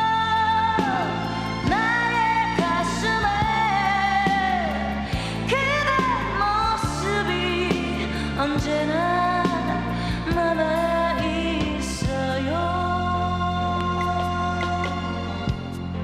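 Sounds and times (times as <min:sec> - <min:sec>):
person singing pop ballad: 0:00.0 - 0:16.0
steady bass line: 0:00.0 - 0:16.0.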